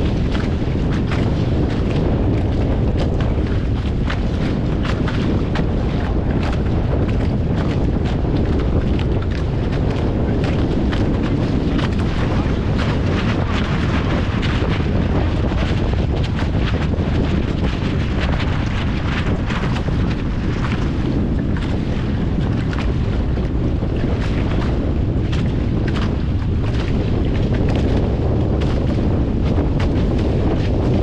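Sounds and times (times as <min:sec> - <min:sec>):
rushing water: 0:00.0 - 0:31.0
wind rumble on microphone: 0:00.0 - 0:31.0.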